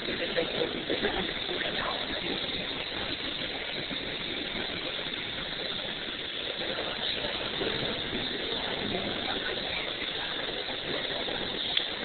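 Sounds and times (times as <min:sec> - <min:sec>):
busy indoor hall din: 0:00.0 - 0:12.0.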